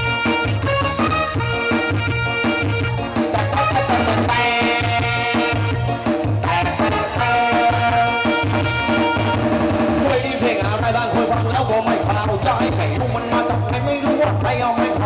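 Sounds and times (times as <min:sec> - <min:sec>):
live band playing through pa: 0:00.0 - 0:15.0
steady bass beat: 0:00.0 - 0:15.0.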